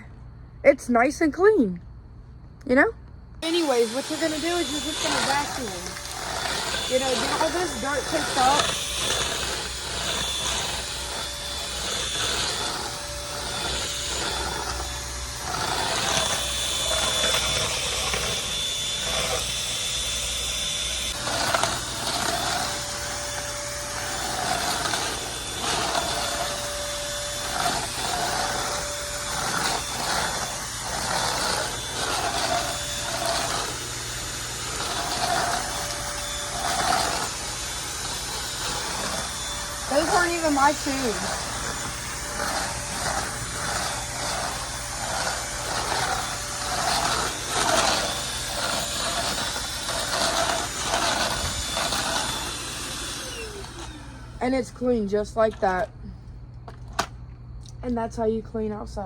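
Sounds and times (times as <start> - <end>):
vacuum cleaner running: 3.4 - 55.8.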